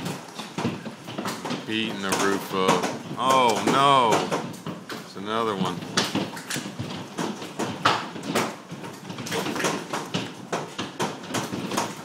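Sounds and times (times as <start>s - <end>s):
hailstones hitting roof: 0.0s - 12.0s.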